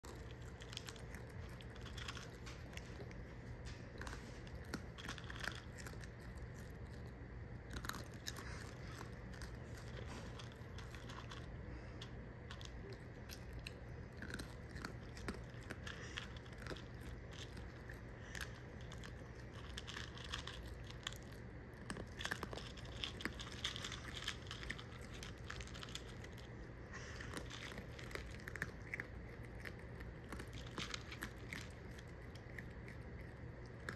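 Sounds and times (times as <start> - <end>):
raccoon chewing crunchy snacks: 0.0 - 33.9
steady low hum: 0.0 - 33.9.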